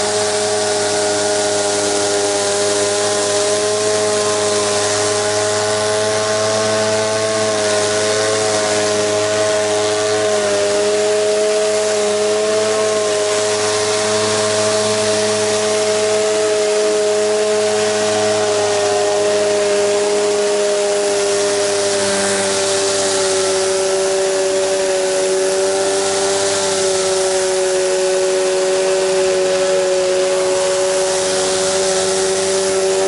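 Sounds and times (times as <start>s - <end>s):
pressure washer engine running: 0.0s - 33.0s
water jet hissing: 0.0s - 33.0s.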